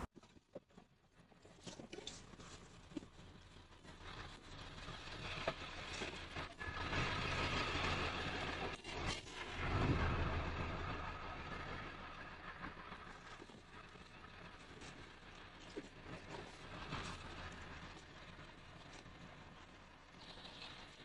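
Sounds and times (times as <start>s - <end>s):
vehicle passing by: 4.0s - 21.0s.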